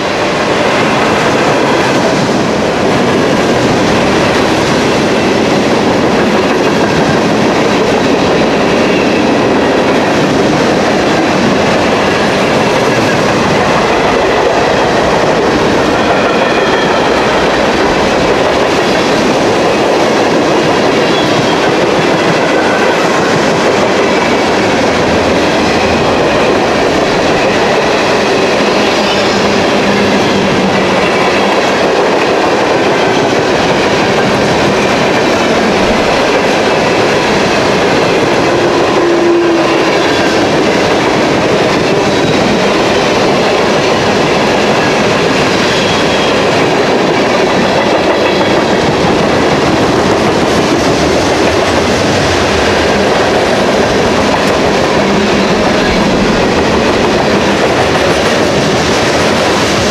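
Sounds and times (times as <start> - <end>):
railroad cars rolling past: 0.0 - 59.9.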